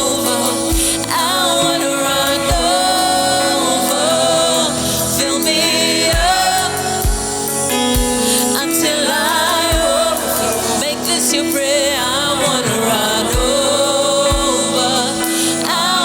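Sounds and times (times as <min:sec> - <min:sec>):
gospel singing: 0:00.0 - 0:16.0
held keyboard chords: 0:00.0 - 0:16.0.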